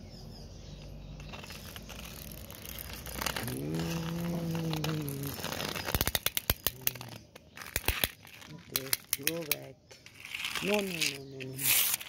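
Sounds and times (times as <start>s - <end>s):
drawn-out hum: 0.8s - 10.5s.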